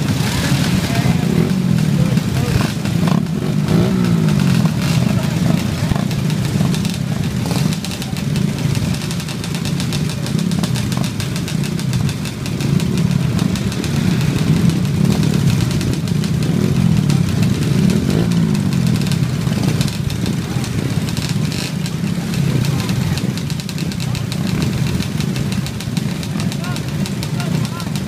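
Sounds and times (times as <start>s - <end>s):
engine throttle blips: 0.0s - 28.0s
minibike engines idling: 0.0s - 28.0s.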